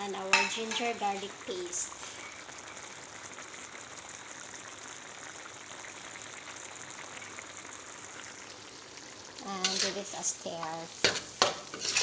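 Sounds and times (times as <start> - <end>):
curry sizzling in hot oil: 0.0 - 12.0.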